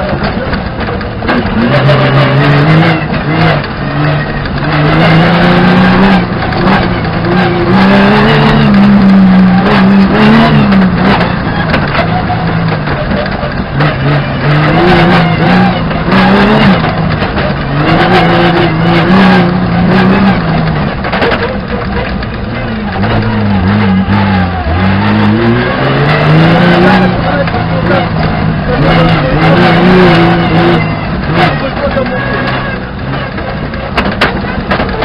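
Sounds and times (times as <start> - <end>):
car engine revving: 0.0 - 35.0
gravel hitting car: 0.0 - 35.0.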